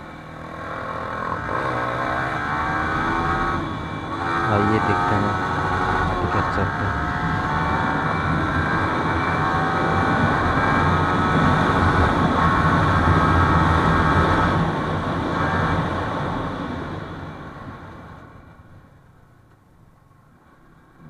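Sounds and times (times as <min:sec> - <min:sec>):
motorcycle engine running hard: 0:00.0 - 0:18.4.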